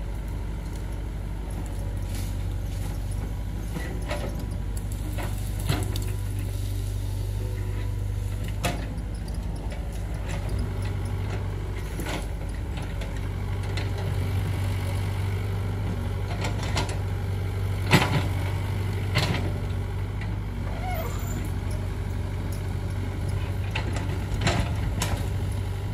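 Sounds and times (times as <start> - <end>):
excavator engine humming: 0.0 - 25.9.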